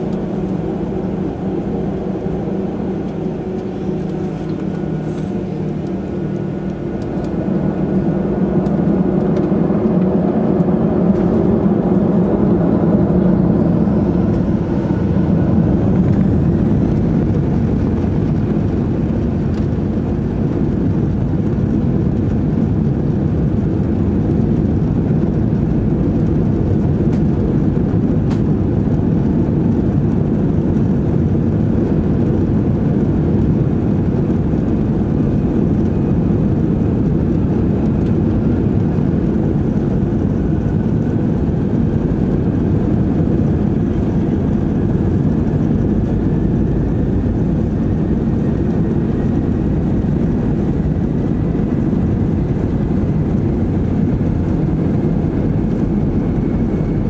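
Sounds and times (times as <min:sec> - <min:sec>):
jet engines low rumble in cabin: 0:00.0 - 0:57.0.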